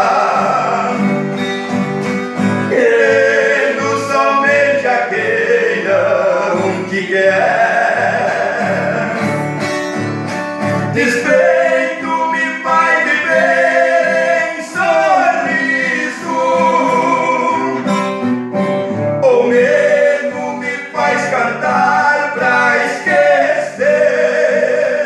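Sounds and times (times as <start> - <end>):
man singing: 0.0 - 1.6, 2.7 - 9.4, 10.9 - 18.1, 19.2 - 25.0
plucked acoustic guitar: 0.0 - 25.0.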